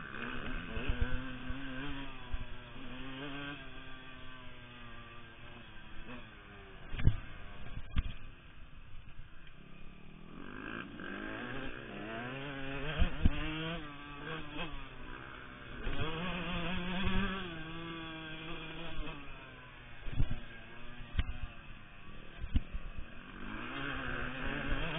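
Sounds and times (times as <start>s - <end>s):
two-stroke motorbike engine revving: 0.0s - 24.9s.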